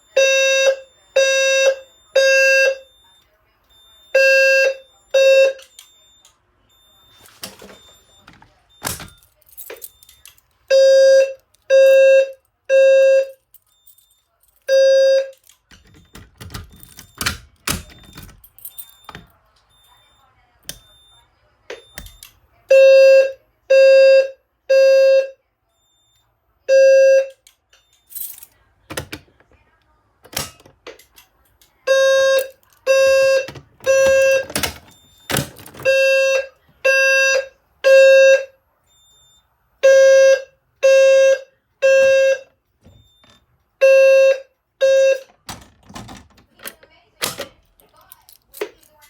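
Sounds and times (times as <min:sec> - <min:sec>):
fire alarm buzzy beeps: 0:00.0 - 0:28.3, 0:31.9 - 0:45.6.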